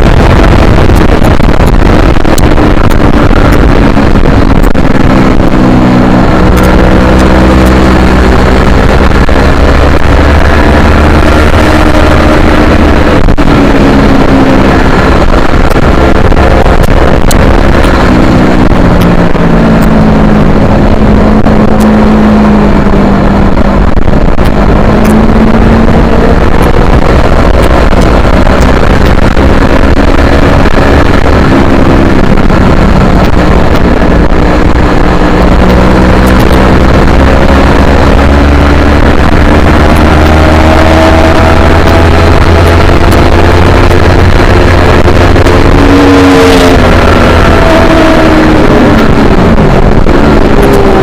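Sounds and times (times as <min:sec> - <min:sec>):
motorcycle engine at racing speed: 0:00.0 - 0:51.0.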